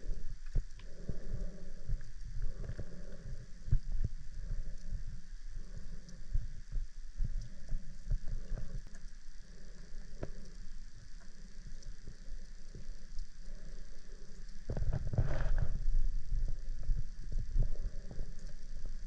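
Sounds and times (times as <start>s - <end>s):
underwater flowing water rumble: 0.0s - 19.0s.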